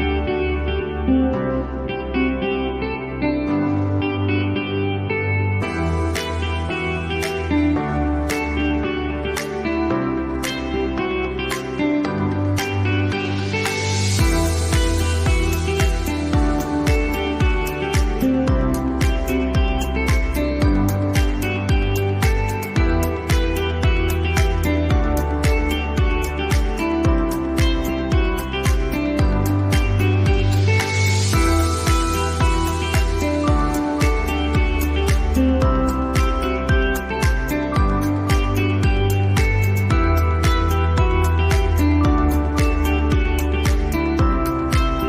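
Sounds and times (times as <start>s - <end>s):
plucked guitar music: 0.0s - 45.0s
steady bass: 0.0s - 45.0s.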